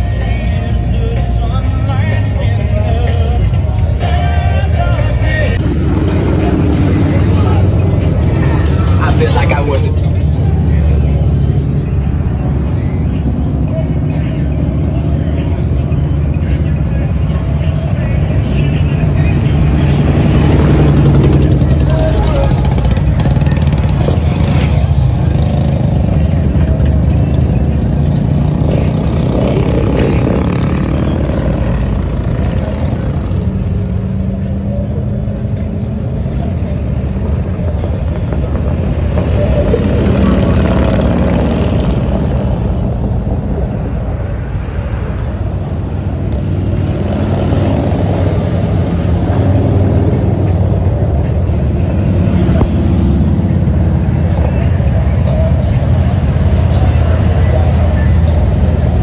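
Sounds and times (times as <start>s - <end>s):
motorcycles riding past: 2.0s - 59.0s.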